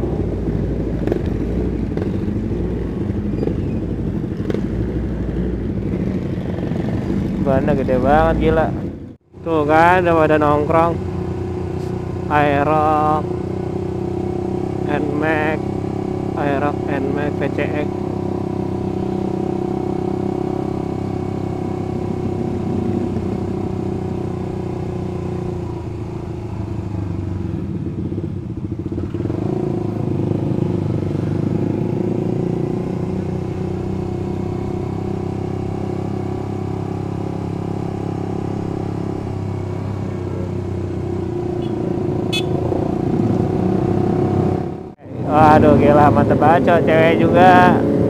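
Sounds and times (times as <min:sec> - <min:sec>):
motorcycle engine running: 0:00.0 - 0:48.0
other motorcycles and scooters: 0:00.0 - 0:48.0.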